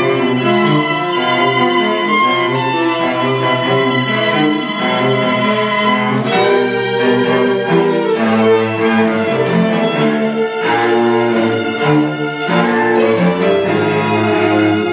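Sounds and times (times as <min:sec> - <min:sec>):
string quartet playing: 0:00.0 - 0:14.9.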